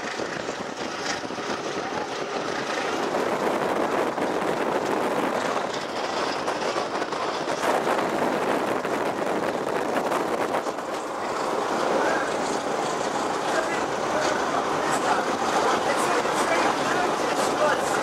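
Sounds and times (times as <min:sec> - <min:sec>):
rail joint clicks: 0:00.0 - 0:18.0
train wheels rumbling on rail: 0:00.0 - 0:18.0.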